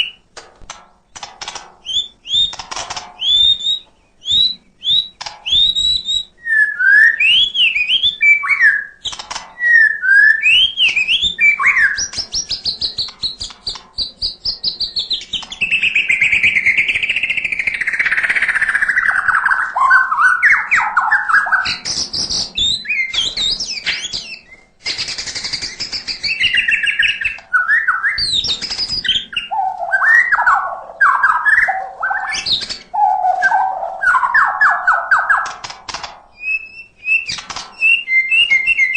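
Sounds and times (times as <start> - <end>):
songbird singing whistles and trills: 0.0 - 0.2, 1.8 - 2.6, 3.2 - 35.6, 36.4 - 38.9.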